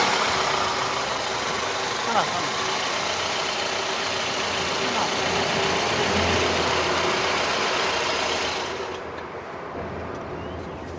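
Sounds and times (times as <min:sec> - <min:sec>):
car engine running cold: 0:00.0 - 0:09.3.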